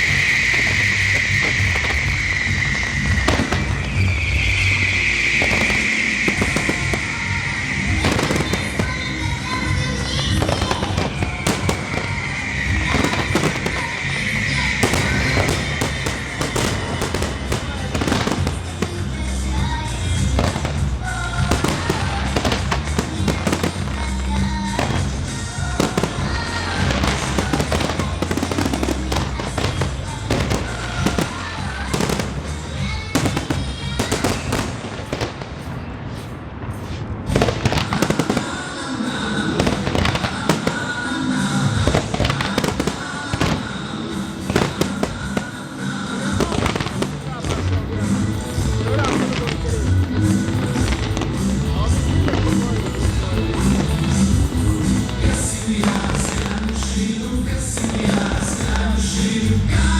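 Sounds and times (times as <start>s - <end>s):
fireworks bangs and crackling: 0.0s - 59.9s
hissing crackle: 0.0s - 59.9s.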